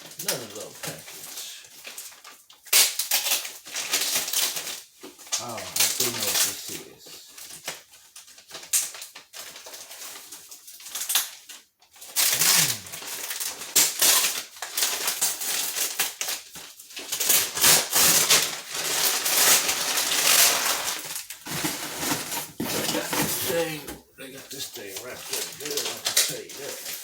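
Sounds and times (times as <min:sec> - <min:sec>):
packaging tearing and crinkling: 0:00.0 - 0:23.8, 0:24.8 - 0:27.0.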